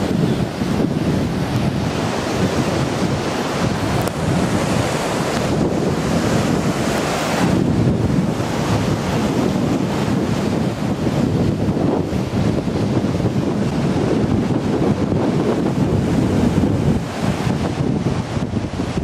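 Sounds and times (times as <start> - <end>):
rough sea waves breaking: 0.0 - 19.0
water washing over seawall: 0.0 - 19.0
wind buffeting microphone: 0.0 - 19.0.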